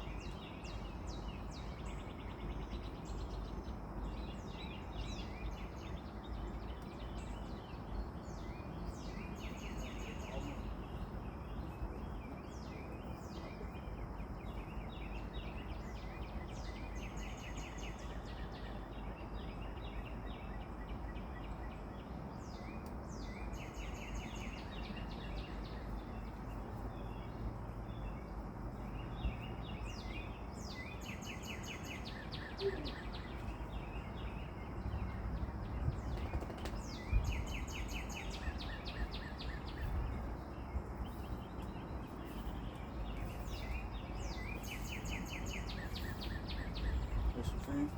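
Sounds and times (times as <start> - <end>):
low outdoor rumble: 0.0 - 47.9
small birds chirping: 0.0 - 47.9.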